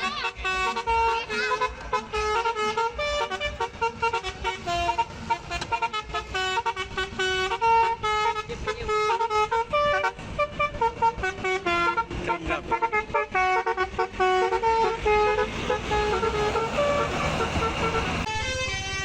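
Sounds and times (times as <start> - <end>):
bus musical horn tune: 0.0 - 19.0.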